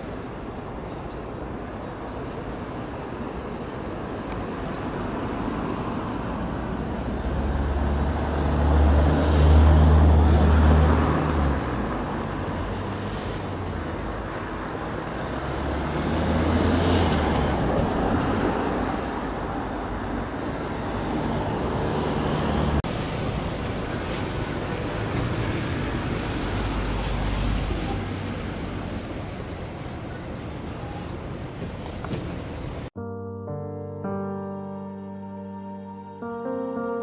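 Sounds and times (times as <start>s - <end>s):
vehicles passing: 0.0s - 33.0s
traffic background: 0.0s - 37.0s.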